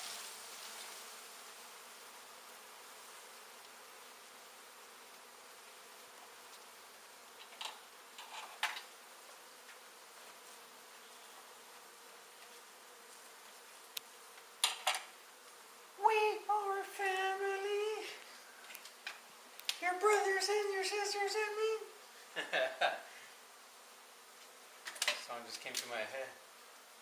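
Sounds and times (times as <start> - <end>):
bee colony buzzing: 0.0 - 27.0.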